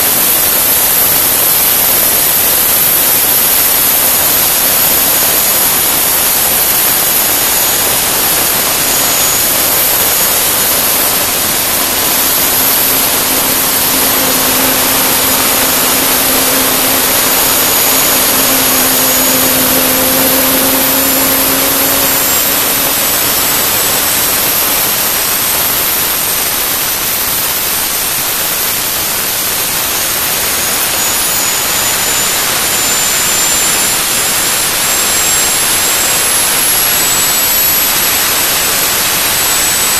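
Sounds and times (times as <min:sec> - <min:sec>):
gas turbine rushing: 0:00.0 - 0:39.9
turbine high whine: 0:00.0 - 0:39.9.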